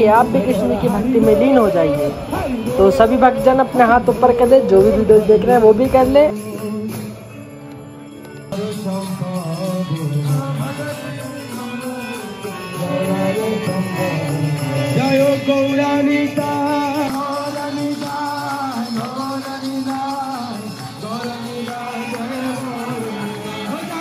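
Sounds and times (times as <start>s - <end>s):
chanted singing: 0.0s - 7.2s, 8.5s - 24.0s
musical accompaniment: 0.0s - 24.0s.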